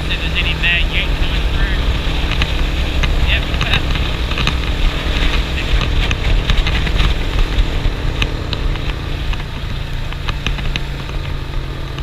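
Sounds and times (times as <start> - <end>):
motorcycle engine cruising: 0.0 - 12.0
wind noise: 0.0 - 12.0.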